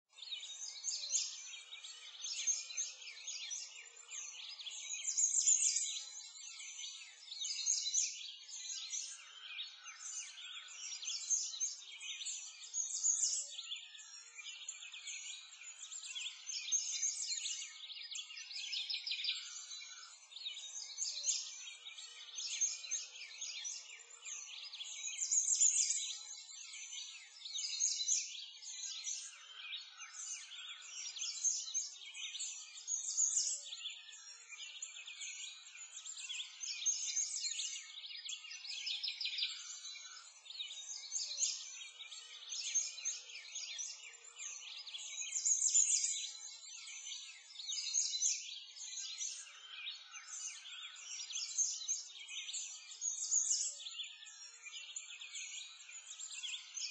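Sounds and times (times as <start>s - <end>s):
small birds chirping and trilling: 0.0s - 56.9s.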